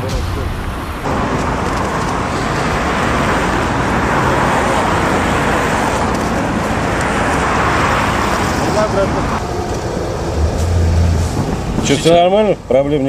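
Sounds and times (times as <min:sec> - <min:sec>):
passing vehicles rushing: 0:00.0 - 0:13.0.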